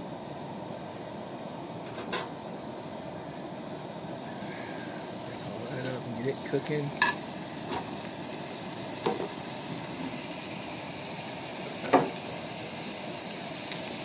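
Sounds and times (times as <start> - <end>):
gas burner hissing: 0.0 - 14.0
pot simmering: 0.0 - 14.0.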